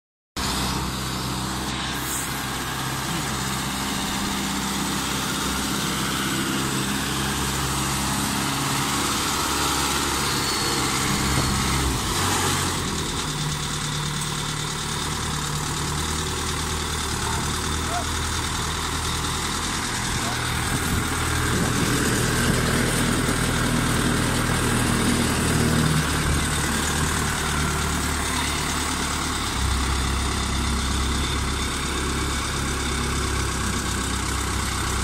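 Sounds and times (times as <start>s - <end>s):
harvester engine running: 0.4s - 35.0s.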